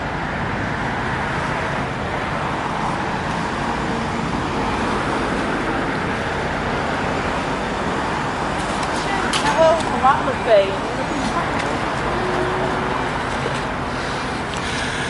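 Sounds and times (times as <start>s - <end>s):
cars going by: 0.0s - 15.0s.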